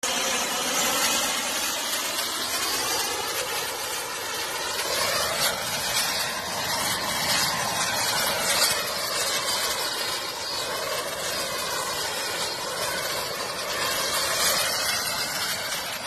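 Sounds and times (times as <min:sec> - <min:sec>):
model rocket motor hissing: 0:00.0 - 0:16.0.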